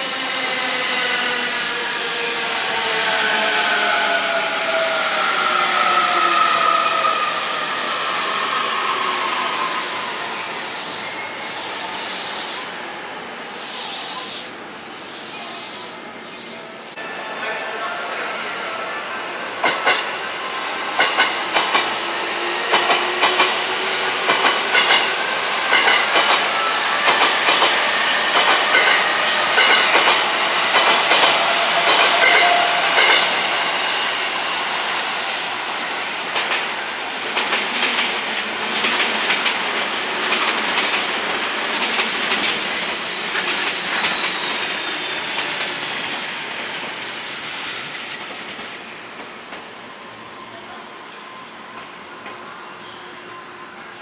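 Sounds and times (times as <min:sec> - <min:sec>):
electric train passing: 0:00.0 - 0:17.4, 0:18.3 - 0:54.0.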